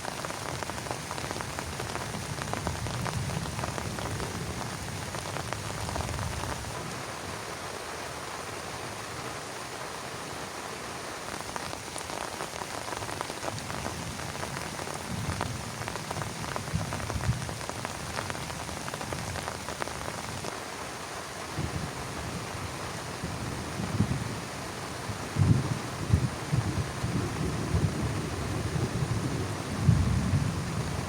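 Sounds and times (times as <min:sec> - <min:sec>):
heavy rain on plastic tarp: 0:00.0 - 0:31.0.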